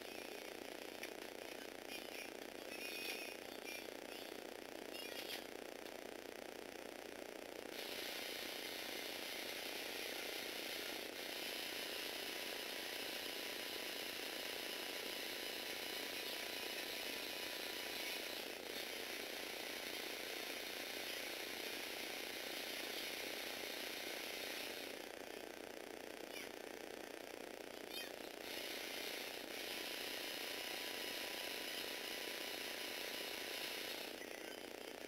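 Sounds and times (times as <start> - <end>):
electric motors and gears whirring: 0.0 - 35.0.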